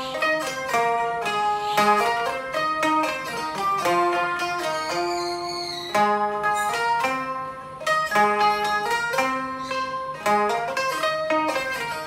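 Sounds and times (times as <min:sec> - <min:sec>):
plucked zither melody: 0:00.0 - 0:12.0.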